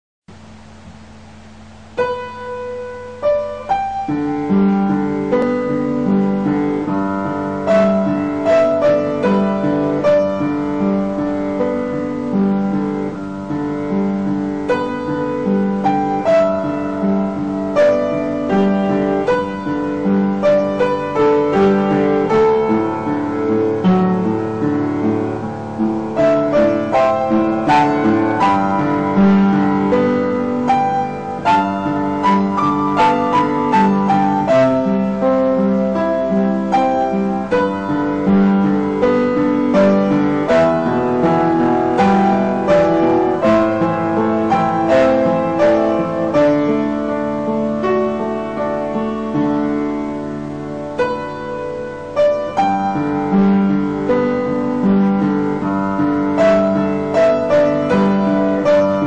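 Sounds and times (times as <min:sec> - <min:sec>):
piano music: 0:00.3 - 0:59.0.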